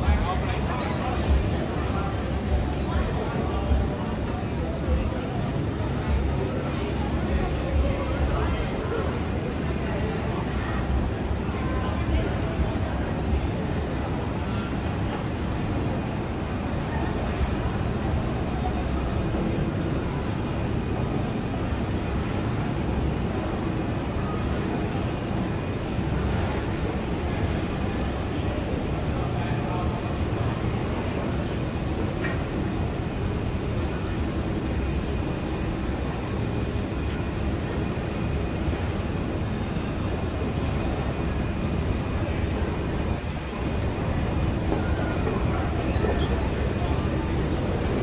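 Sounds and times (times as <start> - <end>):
low rumble of urban ambience: 0.0 - 48.0.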